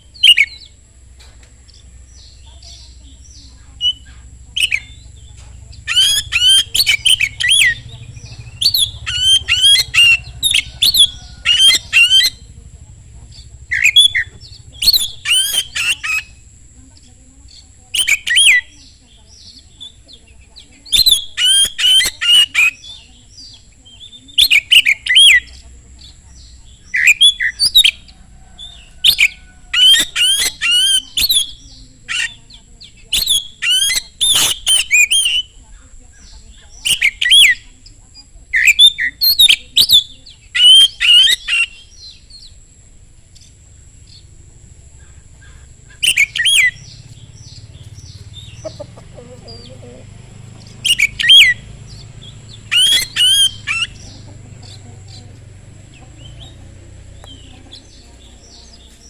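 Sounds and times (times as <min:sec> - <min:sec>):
magpie-robin singing: 0:00.0 - 0:42.7, 0:43.3 - 0:59.0.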